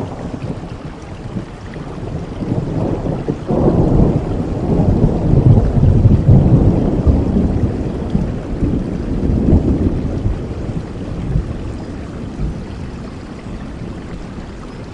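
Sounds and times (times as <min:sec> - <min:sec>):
rolling thunder rumble: 0:00.0 - 0:14.9
steady rain: 0:00.0 - 0:14.9.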